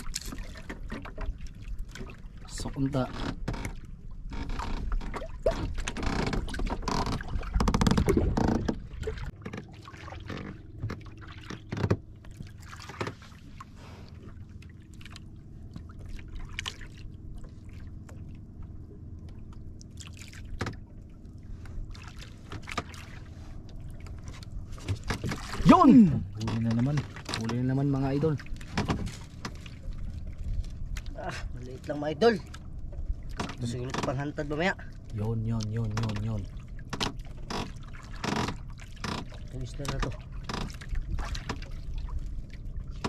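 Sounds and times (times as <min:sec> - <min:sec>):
water lapping against boat hull: 0:00.0 - 0:43.0.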